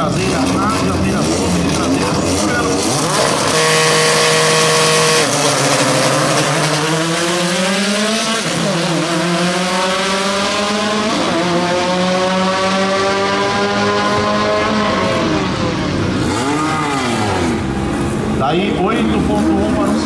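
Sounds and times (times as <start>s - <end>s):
car engines accelerating hard: 0.0s - 20.0s.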